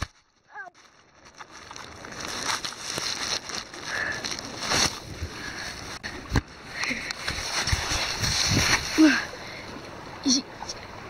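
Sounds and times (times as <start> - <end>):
creek water rushing: 1.7 - 11.0.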